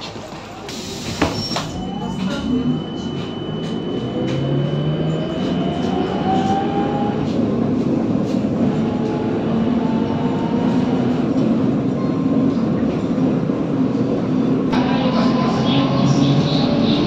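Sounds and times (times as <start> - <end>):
trolleybus electric drive whine: 0.2 - 17.0.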